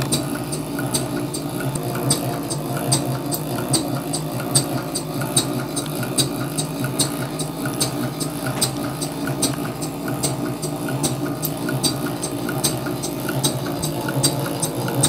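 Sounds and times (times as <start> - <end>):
model steam engine ticking: 0.0 - 15.0
steady low hum: 0.0 - 15.0.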